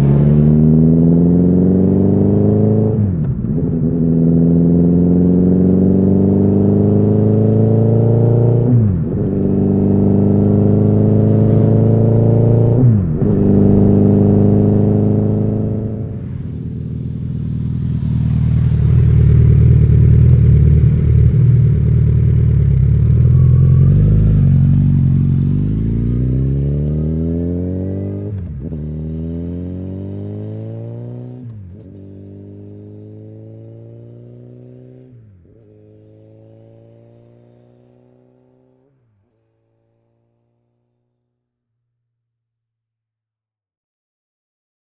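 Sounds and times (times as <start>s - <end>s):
motorcycle accelerating and upshifting: 0.0s - 38.9s.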